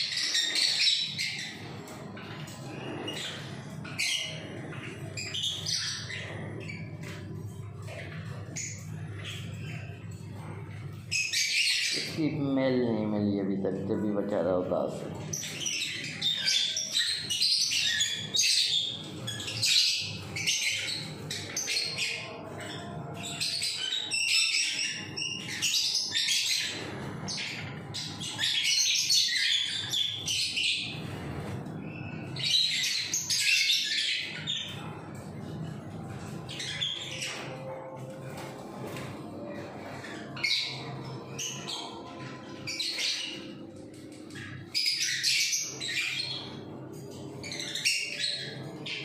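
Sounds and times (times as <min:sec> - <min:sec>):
small birds chirping and chattering: 0:00.0 - 0:49.0.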